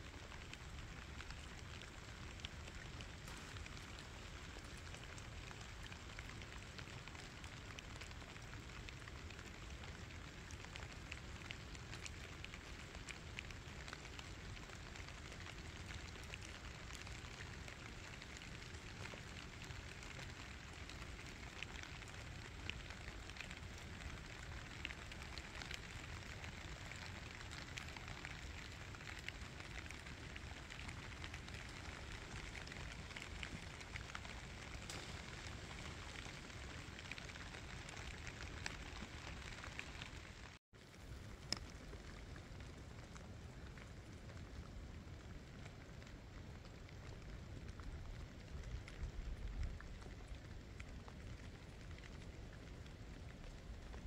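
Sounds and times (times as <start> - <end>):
raindrops tapping close by: 0.0 - 54.0
steady rain falling: 0.0 - 54.0.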